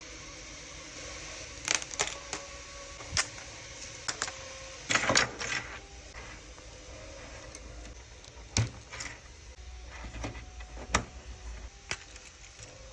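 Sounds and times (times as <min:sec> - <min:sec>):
steady fan-like hiss: 0:00.0 - 0:12.9.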